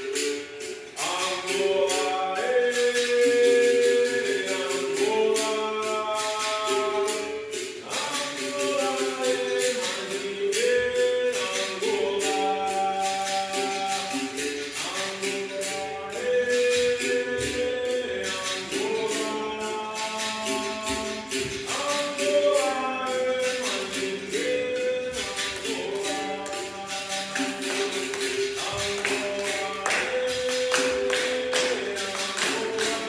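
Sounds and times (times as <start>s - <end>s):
group singing: 0.0s - 33.0s.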